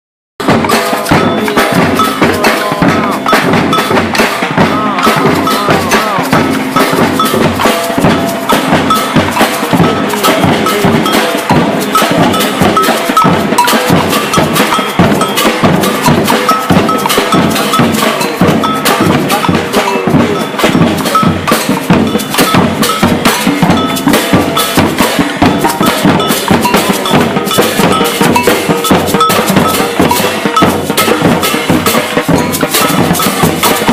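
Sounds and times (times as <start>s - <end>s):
cowbell ringing: 0.4s - 33.9s
percussion ensemble drumming: 0.4s - 33.9s.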